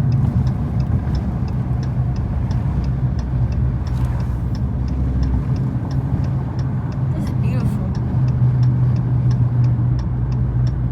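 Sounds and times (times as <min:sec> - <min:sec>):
car engine droning: 0:00.0 - 0:10.9
light regular ticking: 0:00.0 - 0:10.9.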